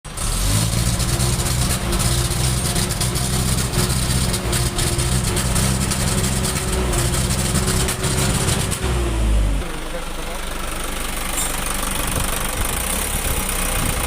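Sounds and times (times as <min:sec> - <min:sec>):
diesel engine idling with misfire: 0:00.1 - 0:14.0.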